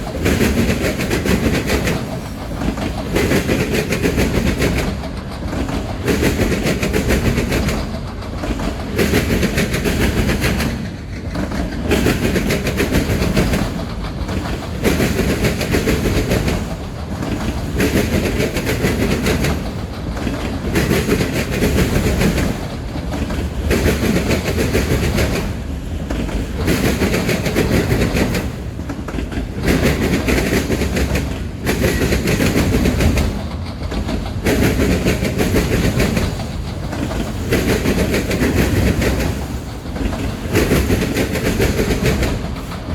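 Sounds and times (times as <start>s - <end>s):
freight train rumble: 0.0s - 42.9s
wheels clicking over rail joints: 0.0s - 42.9s.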